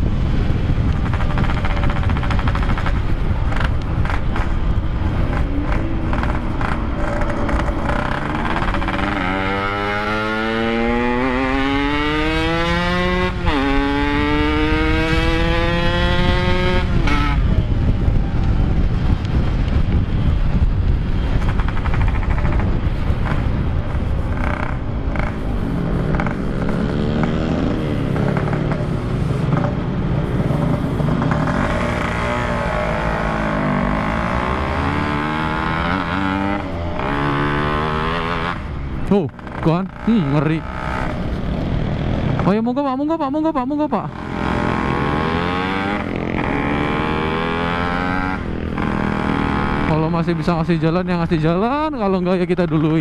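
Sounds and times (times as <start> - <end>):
motorcycle engine accelerating: 0.0 - 53.0
wind and road rush: 0.0 - 53.0.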